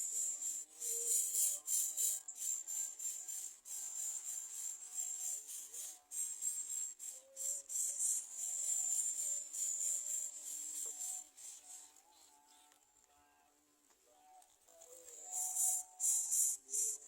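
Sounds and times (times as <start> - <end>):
high-pitched insect drone: 0.0 - 11.9, 15.2 - 17.0.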